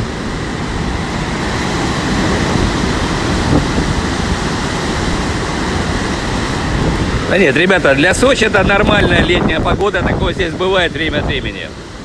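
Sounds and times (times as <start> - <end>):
sea surf rushing: 0.0 - 12.0
storm wind buffeting microphone: 0.0 - 12.0.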